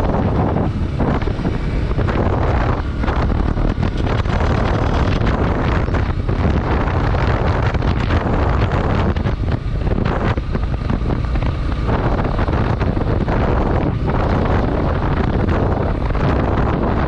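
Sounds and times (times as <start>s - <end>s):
motorcycle riding noise: 0.0s - 17.0s
wind buffeting microphone: 0.0s - 17.0s.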